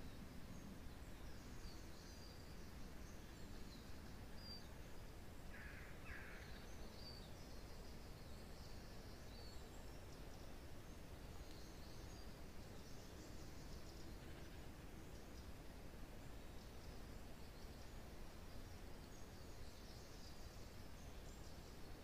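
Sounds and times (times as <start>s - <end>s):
small birds chirping: 0.0s - 22.0s
wind in pine trees: 0.0s - 22.0s.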